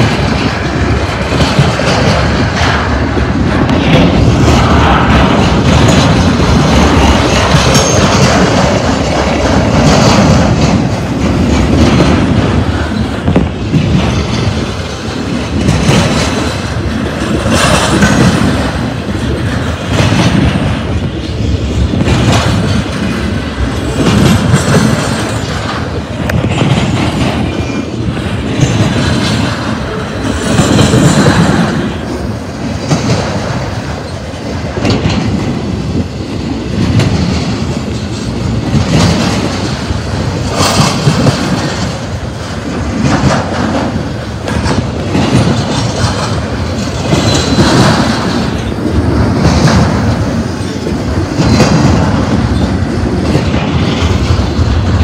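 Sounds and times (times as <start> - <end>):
freight train rumbling: 0.0 - 55.0
wheels clacking over rail joints: 0.0 - 55.0.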